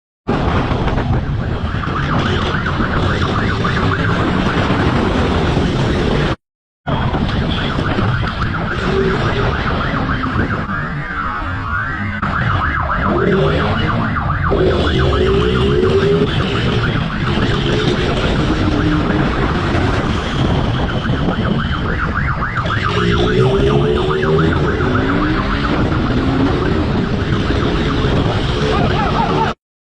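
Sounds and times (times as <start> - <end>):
emergency vehicle sirens wailing: 0.3 - 29.6
road vehicle noise: 0.3 - 29.6.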